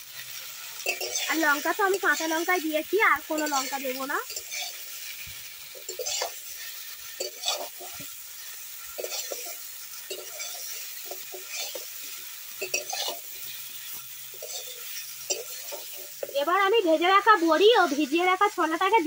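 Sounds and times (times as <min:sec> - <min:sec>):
faint sizzle of frying: 0:00.0 - 0:19.0
metal spatula scraping a wok: 0:00.2 - 0:16.4.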